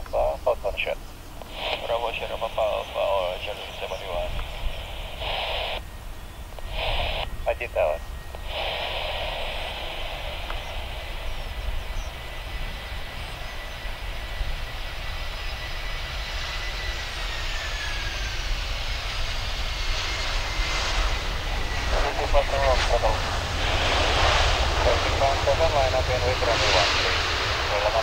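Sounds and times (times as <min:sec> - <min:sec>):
jet engine whine: 0:00.0 - 0:28.0
rushing roar of airliner: 0:00.0 - 0:28.0.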